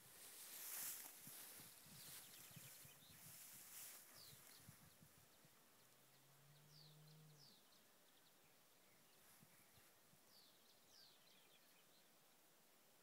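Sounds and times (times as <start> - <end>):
faint bird chirps: 1.7 - 12.2.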